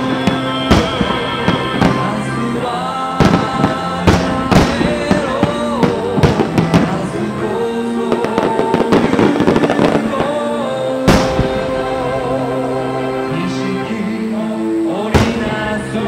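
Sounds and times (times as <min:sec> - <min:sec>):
fireworks booming: 0:00.0 - 0:16.0
music: 0:00.0 - 0:16.0.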